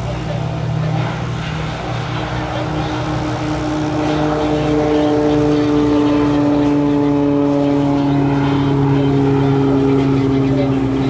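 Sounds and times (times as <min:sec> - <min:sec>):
aircraft engines running: 0:00.0 - 0:11.0.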